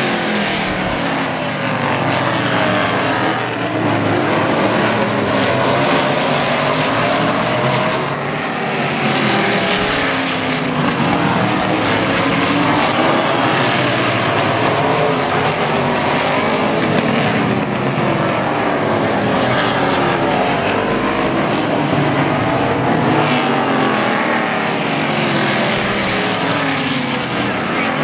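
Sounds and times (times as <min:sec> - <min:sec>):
racing car engines passing: 0:00.0 - 0:28.0.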